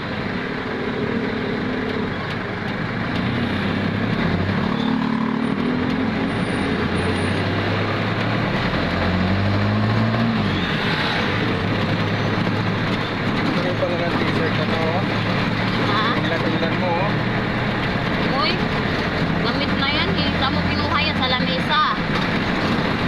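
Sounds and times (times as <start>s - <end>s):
jeep engine: 0.0s - 23.0s
road noise: 0.0s - 23.0s.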